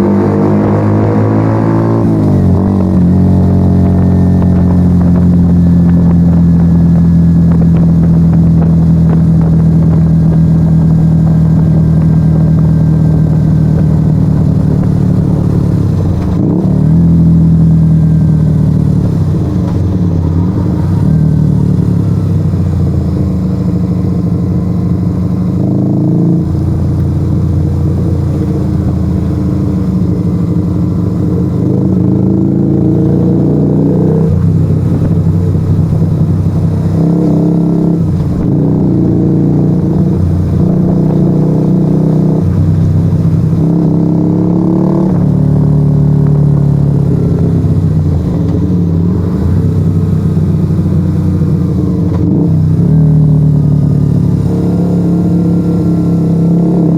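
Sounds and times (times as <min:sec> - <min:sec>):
loud motorcycle engine revving: 0:00.0 - 0:56.9.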